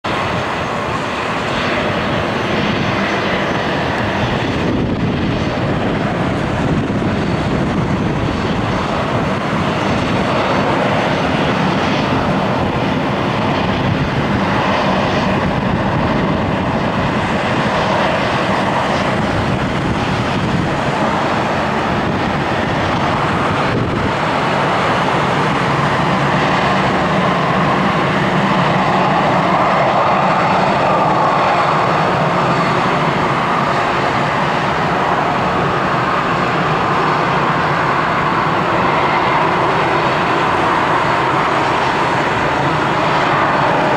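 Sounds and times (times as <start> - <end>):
jet engines whining: 0.0 - 43.9.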